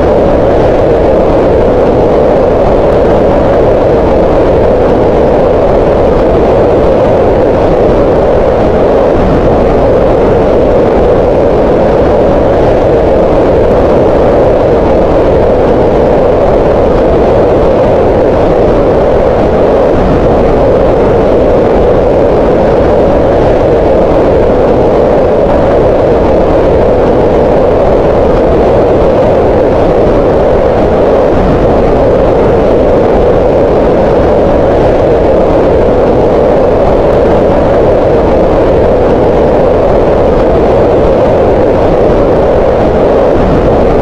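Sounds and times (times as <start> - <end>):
steady synthetic noise: 0.0 - 44.0.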